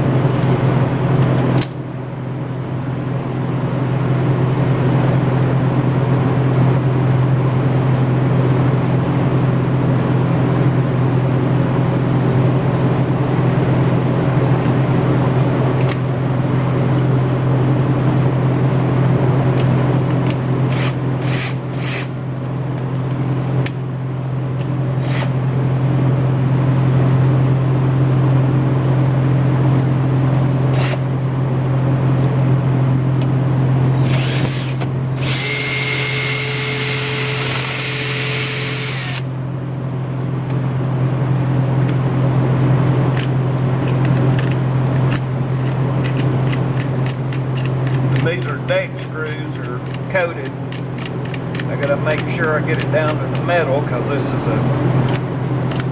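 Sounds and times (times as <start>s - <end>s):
loud low machine drone: 0.0s - 55.9s.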